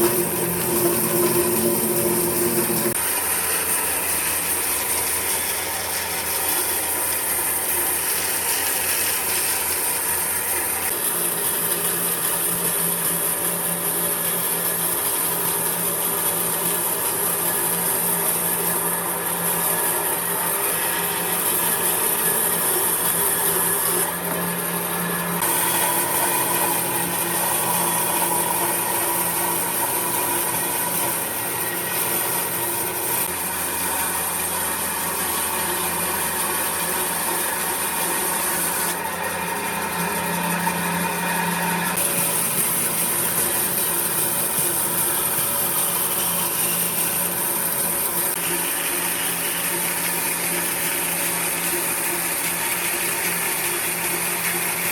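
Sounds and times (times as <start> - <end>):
power tool sanding wood: 0.0 - 54.9.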